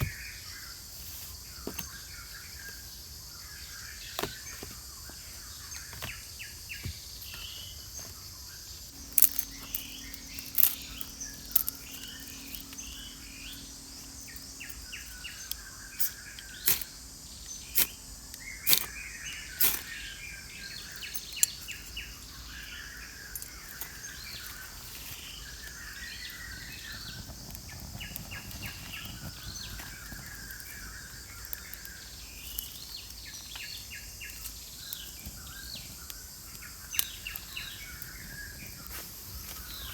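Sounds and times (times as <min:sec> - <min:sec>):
birds chirping: 0:00.0 - 0:39.9
high insect drone: 0:00.0 - 0:39.9.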